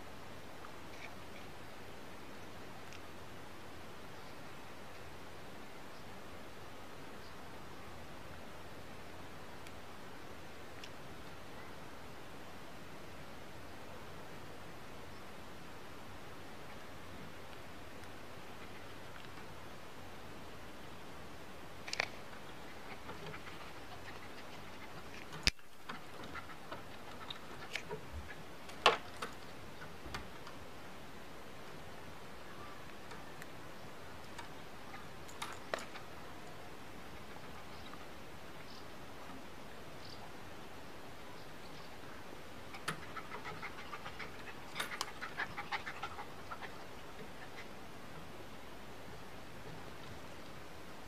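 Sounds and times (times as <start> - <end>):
steady low hiss: 0.0 - 51.0.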